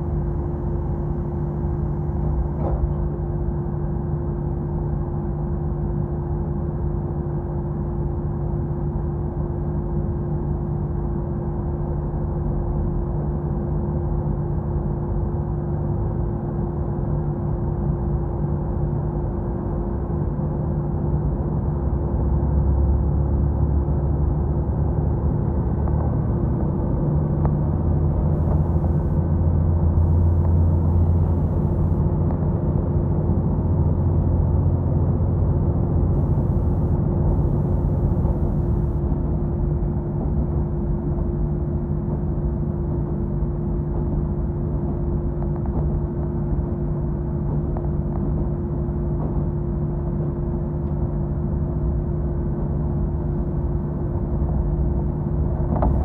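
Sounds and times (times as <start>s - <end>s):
constant hum: 0.0s - 56.0s
train engine and wheels rumbling: 0.0s - 56.0s.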